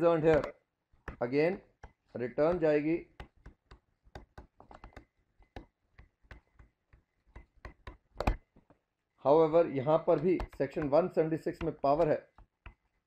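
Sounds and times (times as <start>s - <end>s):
stylus tapping on drawing tablet: 0.2s - 8.9s, 9.9s - 13.0s.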